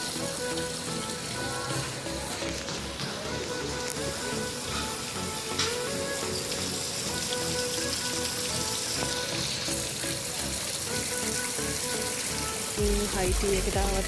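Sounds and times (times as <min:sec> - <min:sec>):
music with steady beat: 0:00.0 - 0:09.4, 0:11.1 - 0:14.0
running splashing water: 0:00.0 - 0:14.0.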